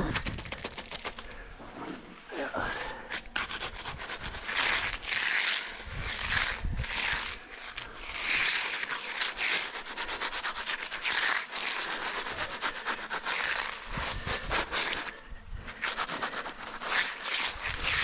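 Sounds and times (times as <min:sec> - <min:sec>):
tool scraping fresh concrete: 0:02.8 - 0:18.0.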